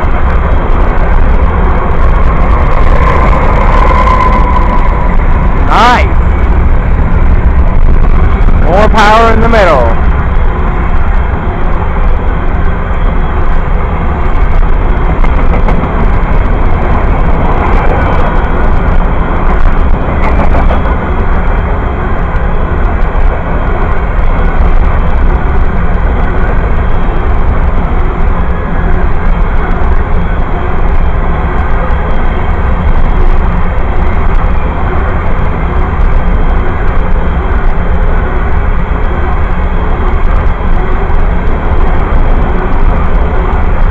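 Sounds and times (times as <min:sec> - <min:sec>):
freight train rumbling and clattering: 0:00.0 - 0:43.9.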